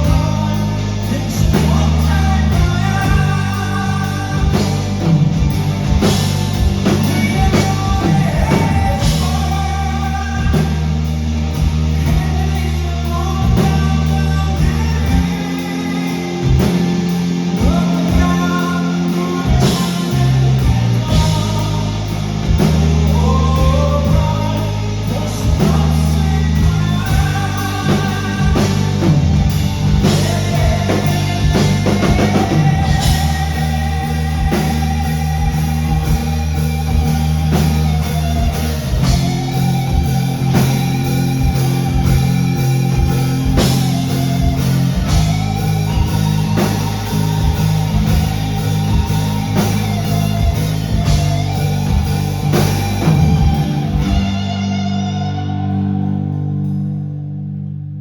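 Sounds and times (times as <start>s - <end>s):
drum kit: 0.0s - 57.0s
guitars: 0.0s - 58.0s
sustained bass line: 0.0s - 58.0s.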